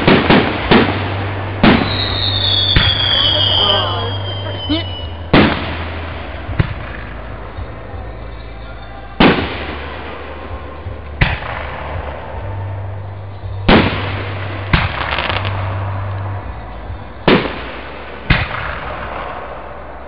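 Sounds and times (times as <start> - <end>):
fireworks booming with echo: 0.0 - 20.0.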